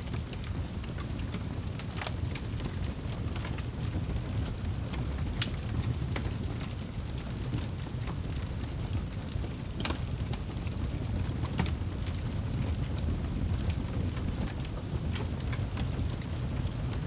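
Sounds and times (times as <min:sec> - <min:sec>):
fire flames rumbling: 0:00.0 - 0:17.0
firewood popping and crackling: 0:00.0 - 0:17.0.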